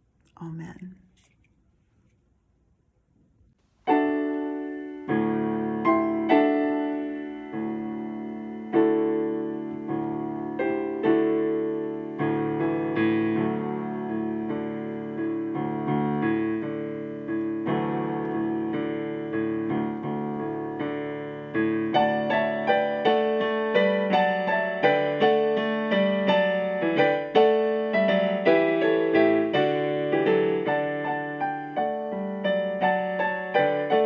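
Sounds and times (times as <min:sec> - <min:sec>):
piano playing slow chords: 0:03.9 - 0:34.0.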